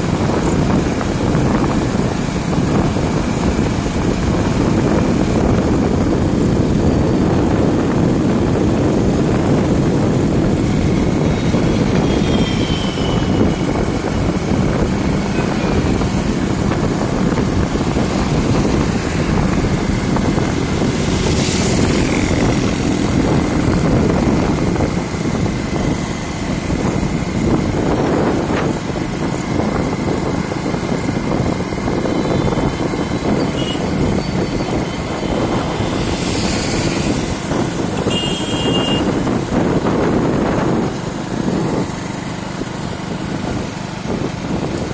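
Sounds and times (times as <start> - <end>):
motorcycle engine drone: 0.0 - 44.9
wind rushing over microphone: 0.0 - 44.9.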